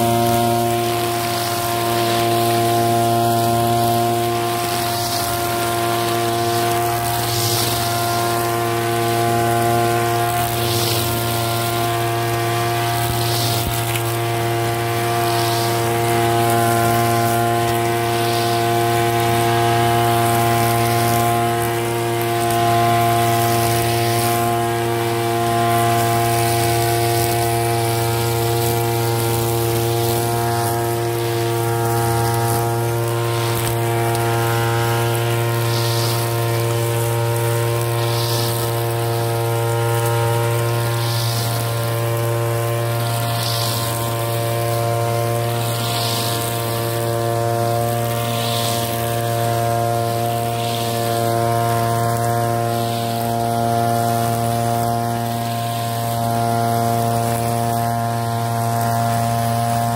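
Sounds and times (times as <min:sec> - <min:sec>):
brush cutter engine running: 0:00.0 - 0:59.9
cutting head swishing through grass: 0:00.0 - 0:59.9.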